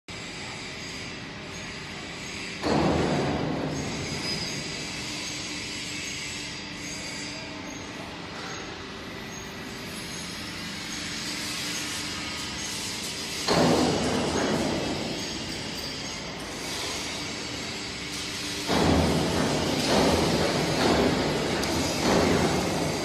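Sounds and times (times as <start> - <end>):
excavator machine noise: 0.1 - 23.0.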